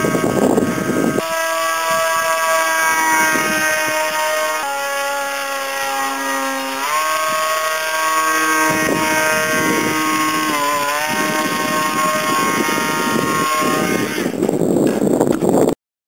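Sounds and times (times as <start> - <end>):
model plane propeller buzzing: 0.0 - 15.4
rough rushing noise: 0.0 - 15.8.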